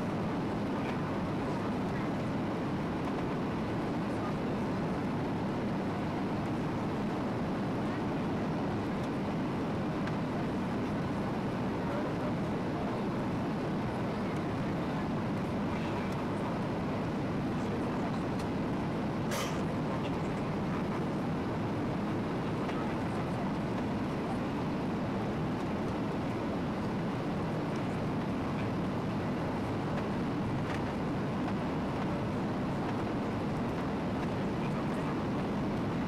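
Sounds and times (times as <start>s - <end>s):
aircraft cabin airflow and jet engines: 0.0s - 36.0s.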